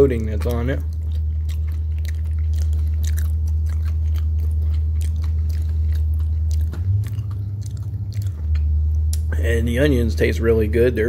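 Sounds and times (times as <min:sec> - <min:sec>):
wet crunchy chewing: 0:00.0 - 0:09.3
steady low hum: 0:00.0 - 0:11.0.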